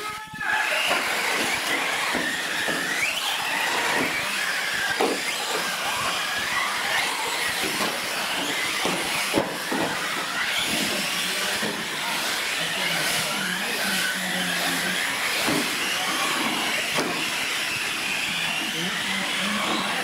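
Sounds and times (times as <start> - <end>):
toy truck motors whining: 0.0 - 20.0.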